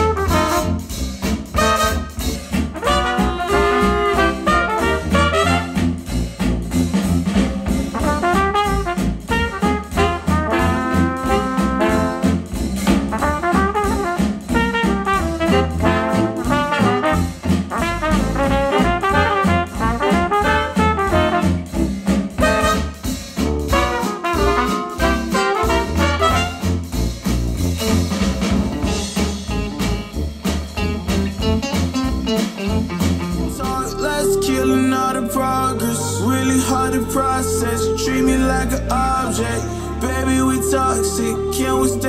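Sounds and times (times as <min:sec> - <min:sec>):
brass jazz through speakers: 0:00.0 - 0:42.0.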